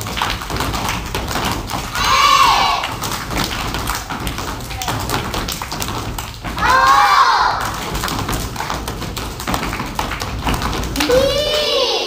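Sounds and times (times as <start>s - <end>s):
body percussion slaps and claps: 0.0s - 11.9s.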